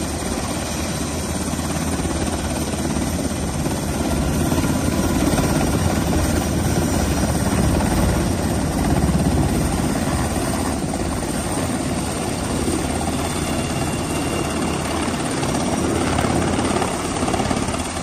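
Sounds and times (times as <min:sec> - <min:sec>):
helicopter rotor beating: 0:00.0 - 0:18.0
turbine engines: 0:00.0 - 0:18.0.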